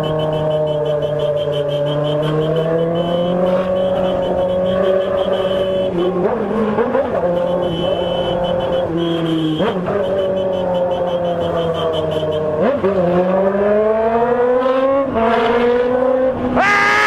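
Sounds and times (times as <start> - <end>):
vehicle engine accelerating: 0.0 - 17.0.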